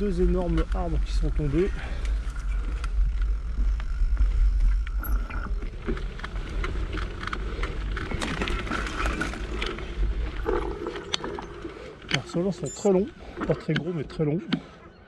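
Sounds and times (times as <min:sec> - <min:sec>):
low rumble on microphone: 0:00.0 - 0:13.5
bike clicks and rattles: 0:00.0 - 0:13.9.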